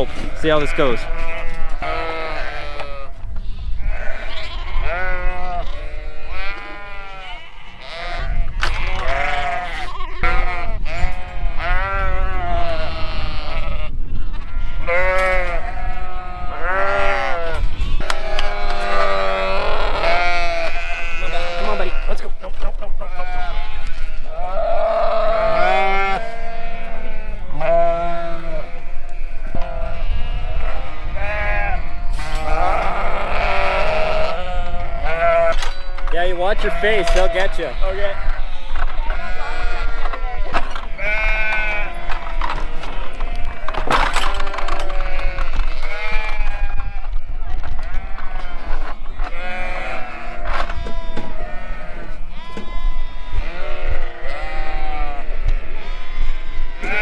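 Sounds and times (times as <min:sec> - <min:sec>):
sheep and lambs bleating: 0:00.0 - 0:57.0.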